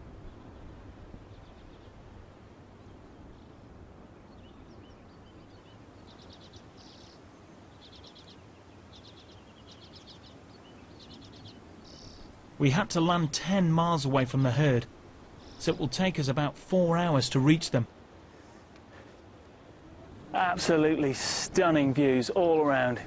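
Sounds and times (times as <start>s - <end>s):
small birds trilling: 0.0s - 23.0s.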